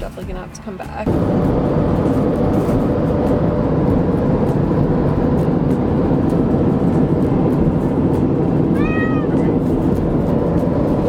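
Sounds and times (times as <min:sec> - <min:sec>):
vehicle travel rumble and hiss: 0:00.0 - 0:11.0.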